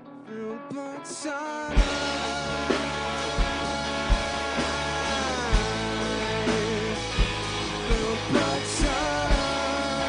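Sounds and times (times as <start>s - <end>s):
bending guitar melody: 0.0s - 10.0s
person singing: 0.0s - 10.0s
rock band playing: 0.0s - 10.0s.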